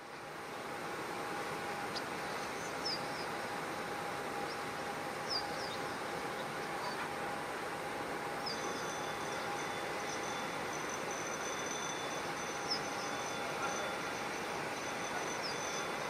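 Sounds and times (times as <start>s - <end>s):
jet airliner engine whine: 0.0s - 16.0s.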